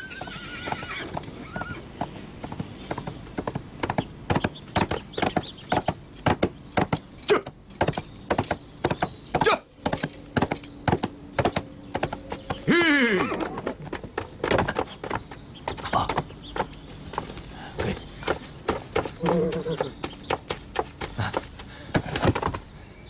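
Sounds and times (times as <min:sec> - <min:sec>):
horse hoofbeats at a run: 0:00.0 - 0:22.7.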